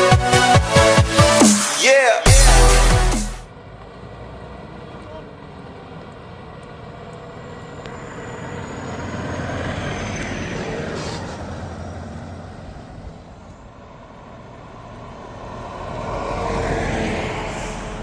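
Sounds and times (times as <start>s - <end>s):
heavy trucks driving past: 0.0s - 18.0s.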